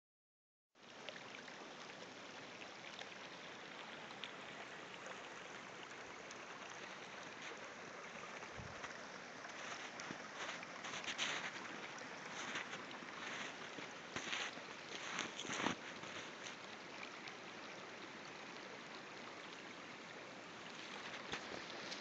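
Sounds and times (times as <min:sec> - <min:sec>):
stream flowing: 0:00.8 - 0:22.0.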